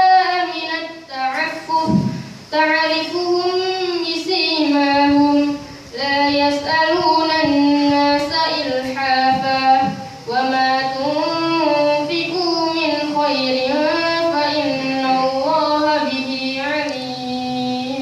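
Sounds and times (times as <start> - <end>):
boy chanting melodically: 0.0 - 18.0.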